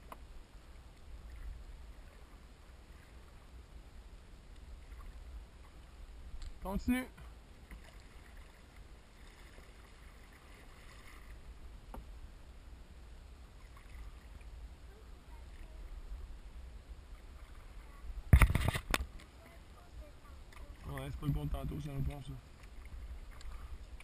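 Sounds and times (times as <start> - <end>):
paddles stroking water: 0.0 - 24.0.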